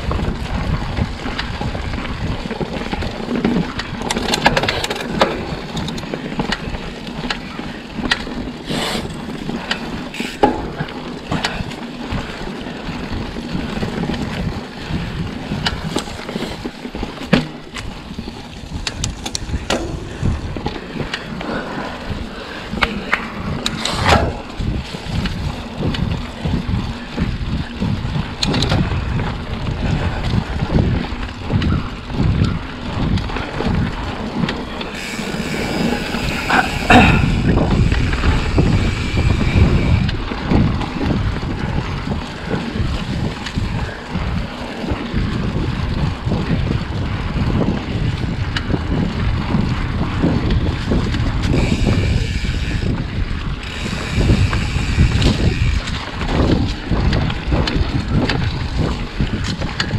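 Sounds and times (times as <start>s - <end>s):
bike clicks and rattles: 0.0s - 59.9s
bike tyres on dirt trail: 0.0s - 59.9s
wind buffeting microphone: 0.0s - 59.9s.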